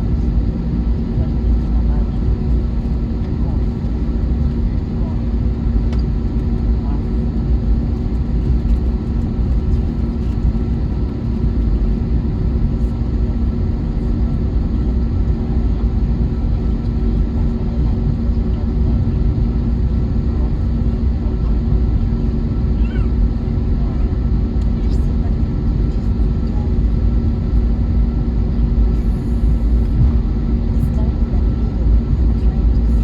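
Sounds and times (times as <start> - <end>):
low rumble of aircraft cabin: 0.0 - 33.0
steady humming tones: 0.0 - 33.0.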